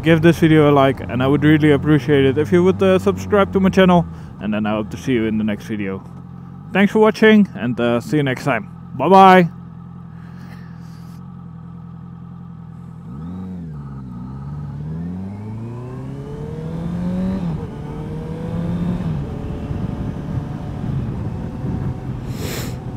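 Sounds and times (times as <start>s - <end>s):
motorcycle engine revving: 0.0s - 22.9s
wind and road noise: 0.0s - 22.9s.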